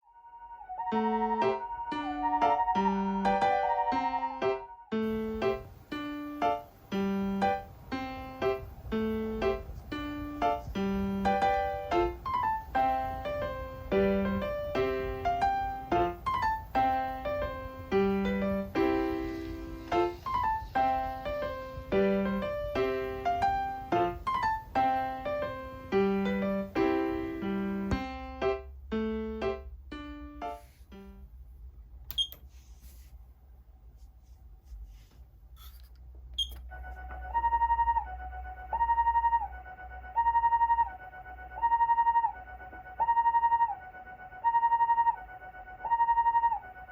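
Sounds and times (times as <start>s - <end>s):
piano music: 0.0s - 31.3s, 36.7s - 46.9s.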